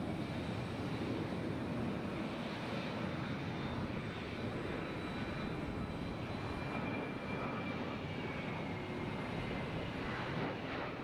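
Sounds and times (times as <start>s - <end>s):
jet engines rumbling with high whine: 0.0s - 11.0s.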